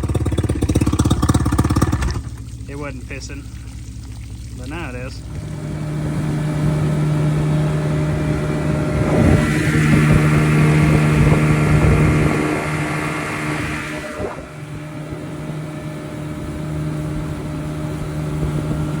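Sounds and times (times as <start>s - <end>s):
outboard motor revving and idling: 0.0s - 19.0s.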